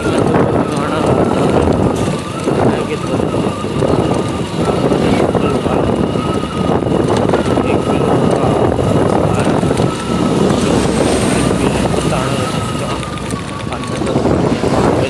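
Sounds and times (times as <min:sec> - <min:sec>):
motorcycle engine running: 0:00.0 - 0:15.0
steady high whine: 0:00.0 - 0:15.0
wind rushing over microphone: 0:00.0 - 0:15.0.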